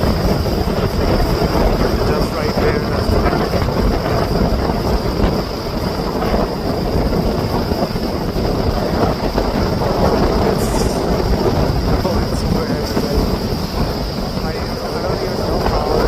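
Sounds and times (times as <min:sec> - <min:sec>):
lake waves breaking: 0:00.0 - 0:16.0
wind buffeting microphone: 0:00.0 - 0:16.0.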